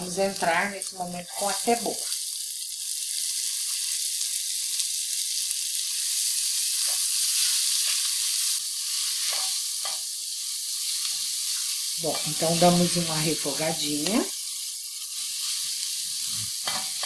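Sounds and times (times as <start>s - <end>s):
bacon and onion sizzling: 0.0s - 17.0s.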